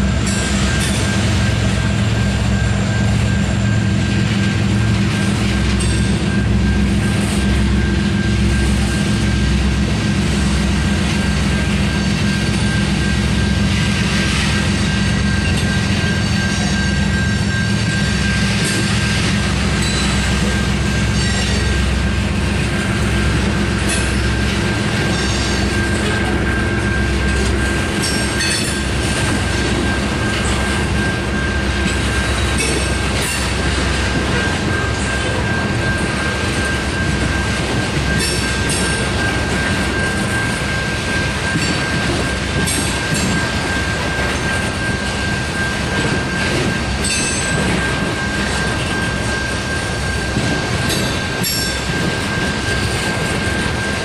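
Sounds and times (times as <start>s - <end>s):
high wheel squeal: 0.0s - 54.0s
train wheels rumbling on rail: 0.0s - 54.0s.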